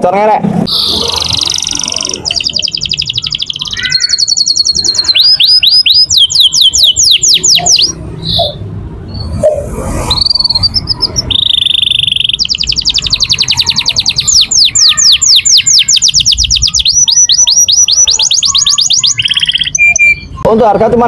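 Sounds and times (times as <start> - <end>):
canary singing rapid trills: 0.7 - 20.5.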